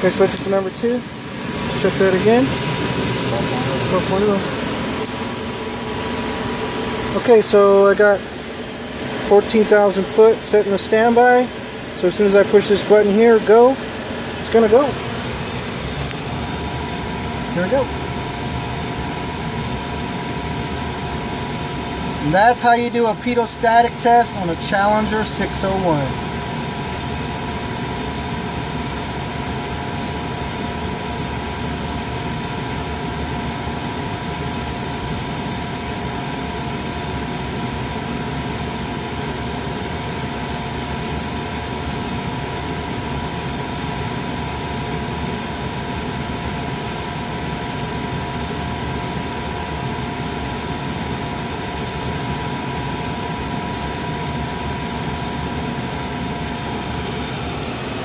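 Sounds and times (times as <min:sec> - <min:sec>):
cockpit equipment drone and hiss: 0:00.0 - 0:58.0.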